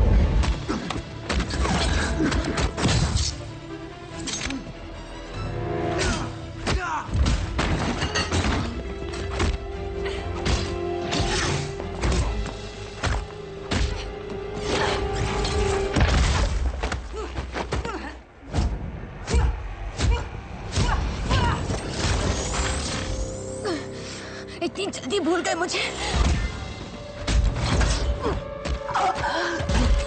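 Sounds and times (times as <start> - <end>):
tense film music: 0.0 - 30.0.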